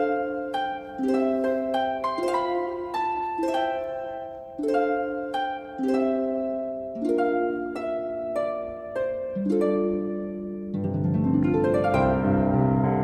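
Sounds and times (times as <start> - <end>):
plucked harp arpeggio: 0.0 - 13.0.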